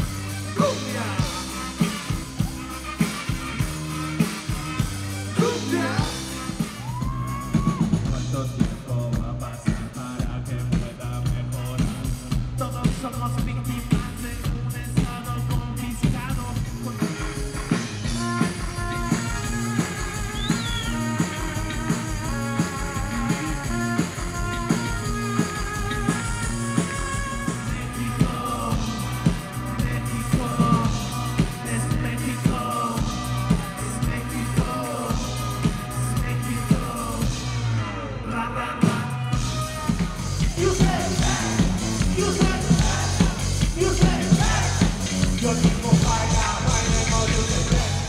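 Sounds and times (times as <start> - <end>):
electronic dance music: 0.0 - 8.0, 15.2 - 37.7, 38.9 - 48.0
drum beat: 0.0 - 37.3, 39.4 - 48.0
person singing: 0.5 - 2.2, 5.3 - 48.0.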